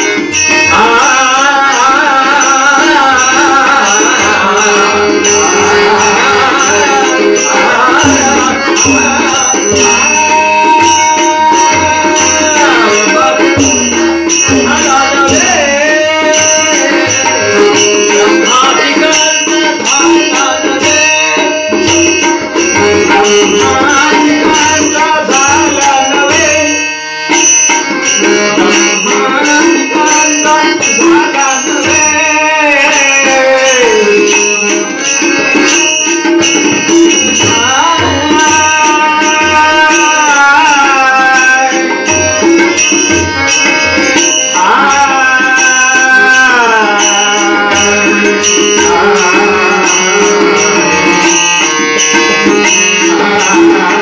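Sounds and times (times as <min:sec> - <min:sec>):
harmonium: 0:00.0 - 0:54.0
man singing: 0:00.0 - 0:54.0
hand drum beating: 0:03.4 - 0:26.7, 0:27.3 - 0:54.0.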